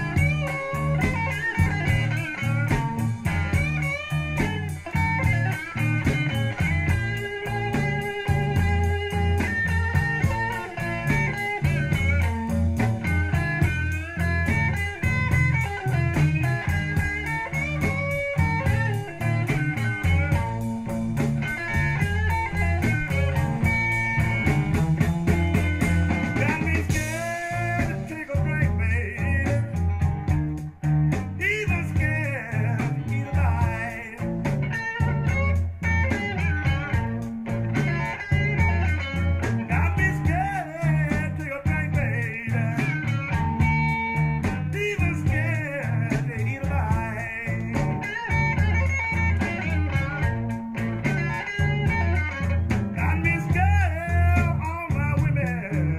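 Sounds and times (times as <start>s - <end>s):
rock music from speakers: 0.0s - 55.9s.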